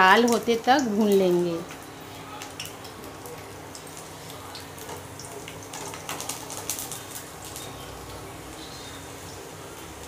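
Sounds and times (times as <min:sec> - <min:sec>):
garlic sizzling and popping in oil: 0:00.0 - 0:10.0.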